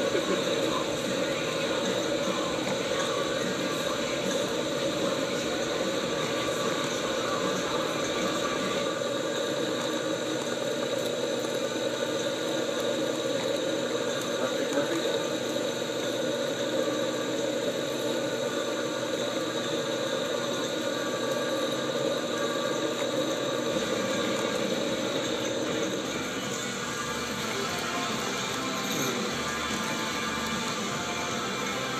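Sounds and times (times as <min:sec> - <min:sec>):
drill boring into steel: 0:00.0 - 0:31.9
metal lathe running: 0:00.0 - 0:31.9.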